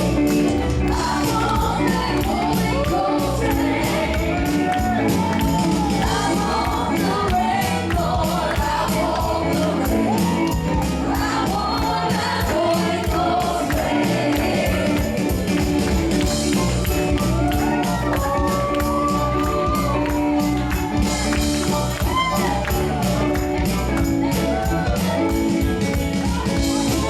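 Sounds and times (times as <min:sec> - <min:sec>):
tambourine and percussion beat: 0:00.0 - 0:27.0
voices singing over a band: 0:00.7 - 0:27.0.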